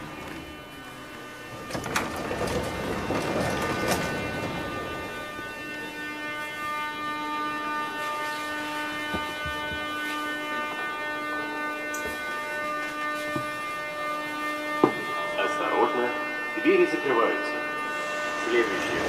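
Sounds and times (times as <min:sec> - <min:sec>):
metro car electrical hum: 0:00.0 - 0:19.0.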